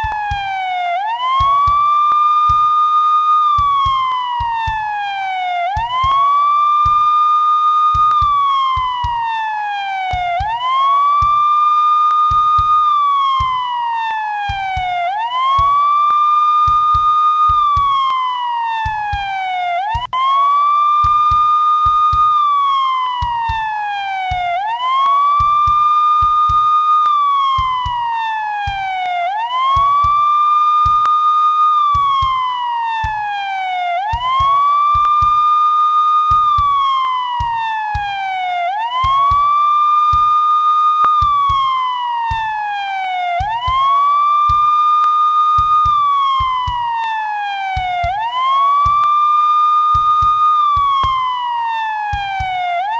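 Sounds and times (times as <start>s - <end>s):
police siren wailing: 0.0s - 52.9s.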